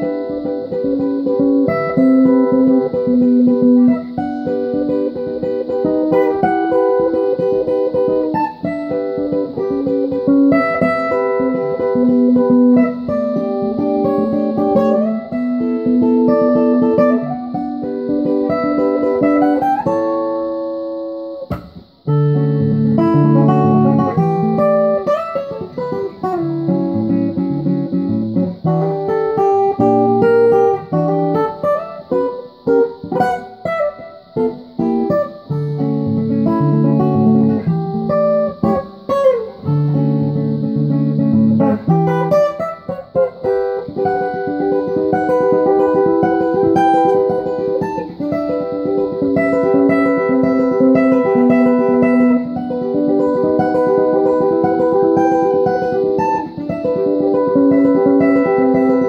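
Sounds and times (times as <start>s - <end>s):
fingerstyle acoustic guitar: 0.0s - 59.0s.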